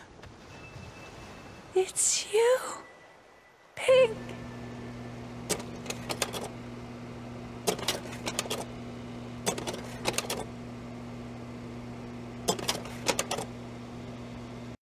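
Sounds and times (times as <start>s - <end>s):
low hum: 0.0s - 14.8s.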